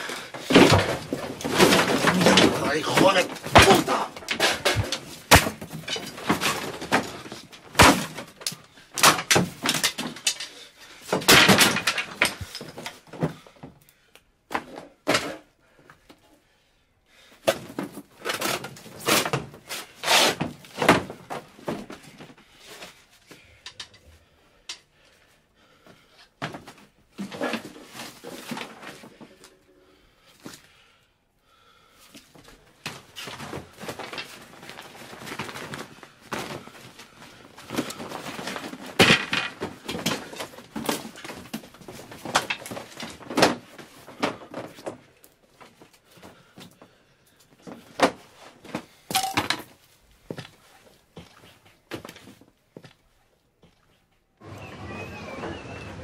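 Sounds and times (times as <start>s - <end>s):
objects knocking and thumping: 0.0s - 13.8s, 14.5s - 16.2s, 17.4s - 24.1s, 26.4s - 29.7s, 32.4s - 46.9s, 47.6s - 53.0s.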